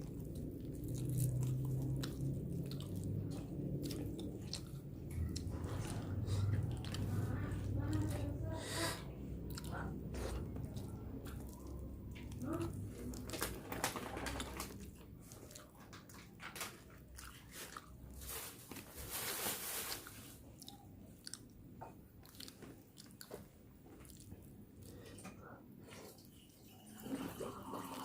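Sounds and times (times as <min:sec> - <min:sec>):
chewing crunchy food: 0:00.0 - 0:26.4.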